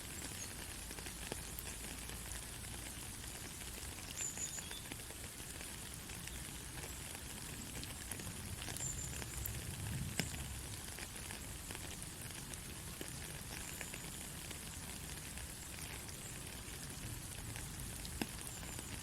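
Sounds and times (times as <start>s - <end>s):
soft rain falling: 0.0s - 19.0s.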